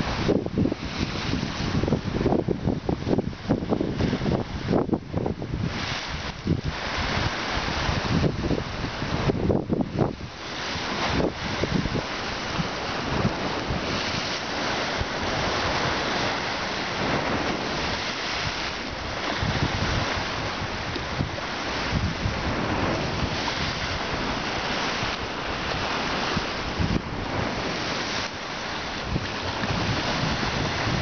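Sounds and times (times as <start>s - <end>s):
wind buffeting microphone: 0.0s - 31.0s
sea waves splashing against stone: 5.6s - 31.0s.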